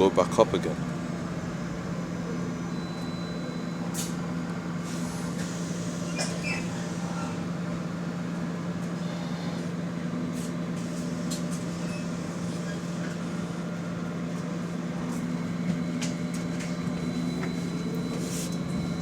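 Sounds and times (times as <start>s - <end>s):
bus rattles and clicks: 0.0s - 19.0s.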